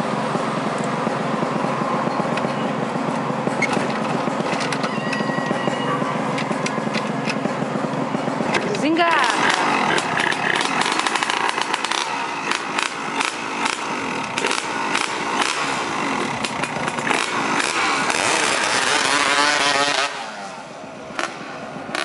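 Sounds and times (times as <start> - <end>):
motorcycle engine running: 0.0 - 4.9, 6.0 - 22.0.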